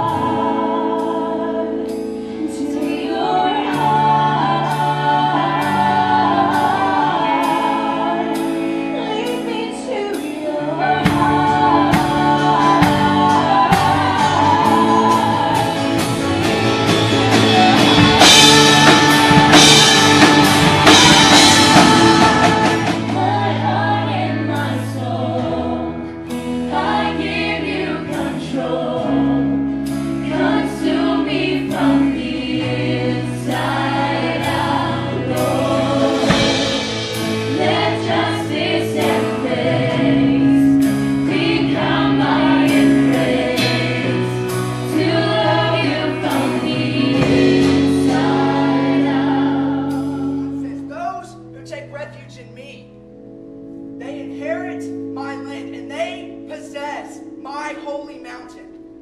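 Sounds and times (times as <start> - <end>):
group singing: 0.0 - 50.8
amplified guitar: 0.0 - 59.0
held bass notes: 10.6 - 59.0.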